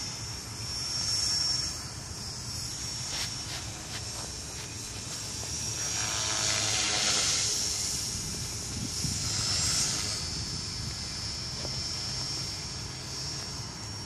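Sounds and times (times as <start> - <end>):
rc helicopter motor whine: 0.0 - 14.0.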